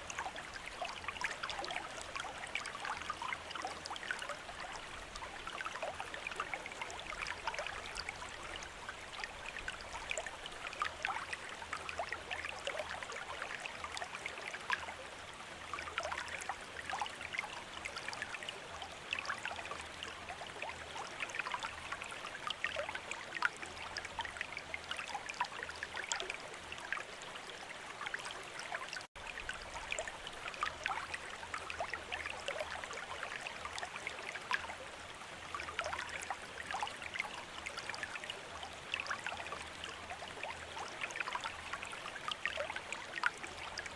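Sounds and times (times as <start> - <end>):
water trickling from fountain spout: 0.0 - 43.9.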